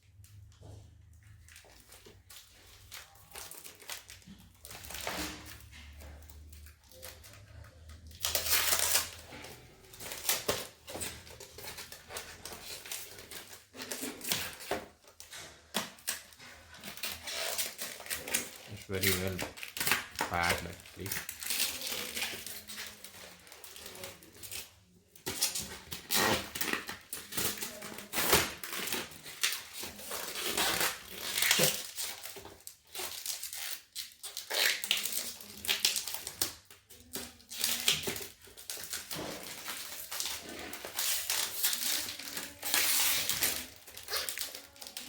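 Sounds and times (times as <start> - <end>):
plastic packaging crinkling: 1.2 - 45.0.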